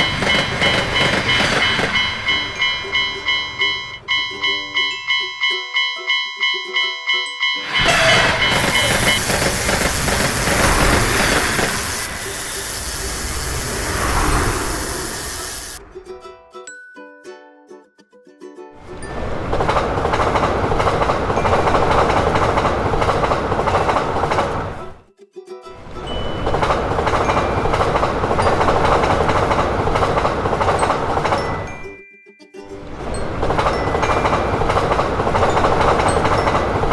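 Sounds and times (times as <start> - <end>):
level crossing bell ringing: 0.0 - 15.8, 19.1 - 23.3, 26.0 - 36.9
electric train passing: 0.0 - 16.5, 18.8 - 25.0, 25.8 - 32.0, 32.7 - 36.9.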